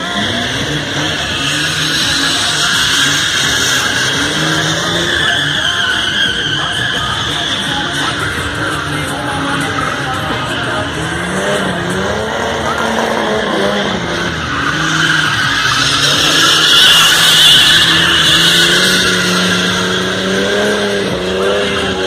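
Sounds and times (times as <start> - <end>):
car engine at high revs: 0.0 - 22.0
tyres skidding and squealing: 0.0 - 22.0.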